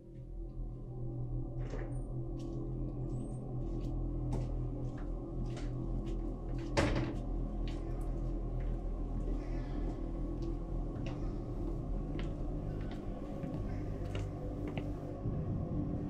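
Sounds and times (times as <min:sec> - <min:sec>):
low steady drone: 0:00.0 - 0:16.0.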